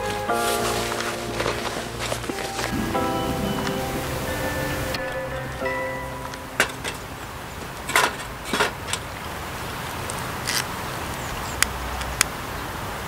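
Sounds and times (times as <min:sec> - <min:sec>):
steady background hiss: 0:00.0 - 0:11.2.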